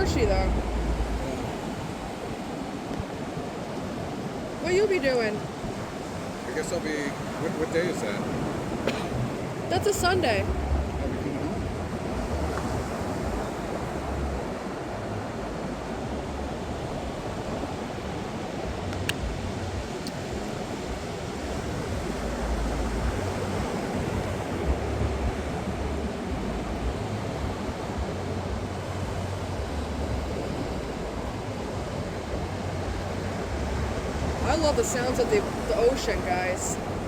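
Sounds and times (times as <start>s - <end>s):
ocean surf breaking: 0.0s - 37.0s
wind gusting on microphone: 0.0s - 37.0s.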